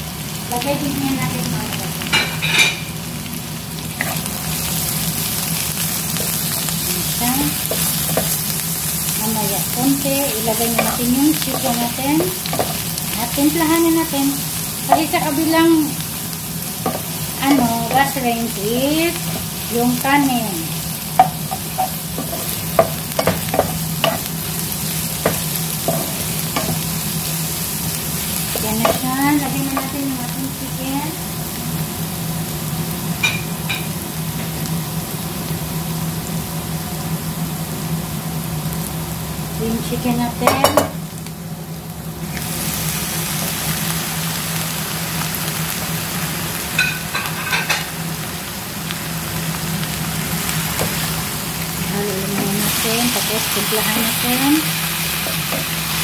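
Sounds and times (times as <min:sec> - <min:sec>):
steady low hum: 0:00.0 - 0:46.8
onions sizzling in hot oil: 0:00.0 - 0:56.0.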